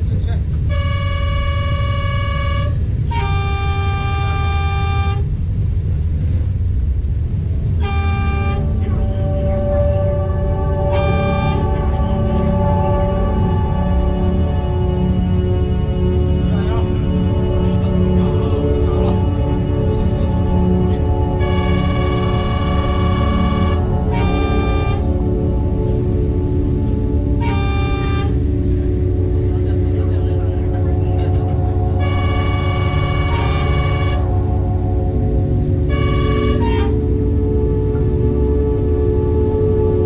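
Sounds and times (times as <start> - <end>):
ambient drone music: 0.0 - 40.0
train rumbling: 0.0 - 40.0
train horn blasts: 0.6 - 5.4, 7.7 - 30.1, 31.2 - 38.0.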